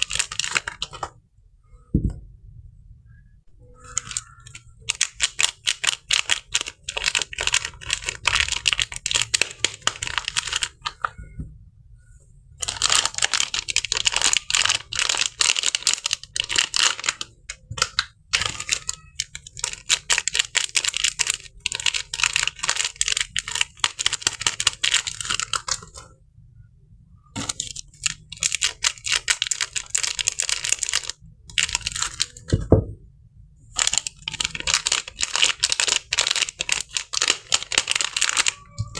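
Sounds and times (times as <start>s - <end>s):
paper wrapping crinkling and tearing: 0.0s - 1.1s, 3.8s - 11.1s, 12.6s - 26.0s, 27.4s - 32.6s, 33.8s - 38.9s.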